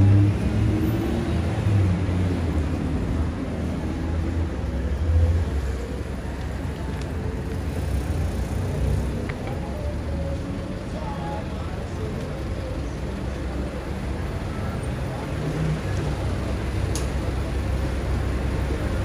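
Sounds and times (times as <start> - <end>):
cars passing on road: 0.0 - 19.0.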